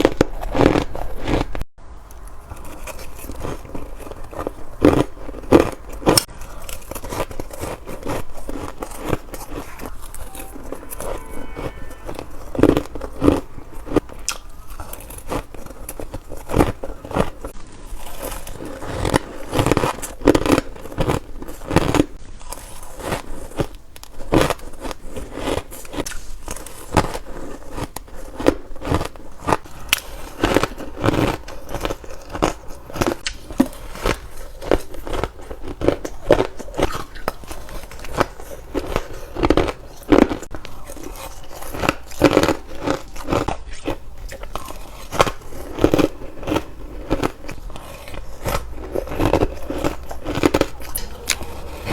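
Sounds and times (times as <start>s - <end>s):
ice crunched between teeth: 0.0s - 1.6s, 2.2s - 51.9s.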